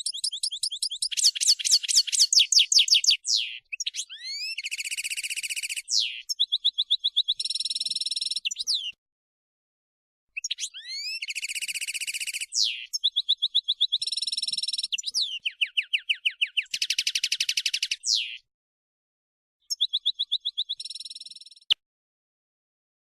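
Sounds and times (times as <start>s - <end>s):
bird song with high trills: 0.0s - 9.0s, 10.4s - 18.5s, 19.7s - 21.8s.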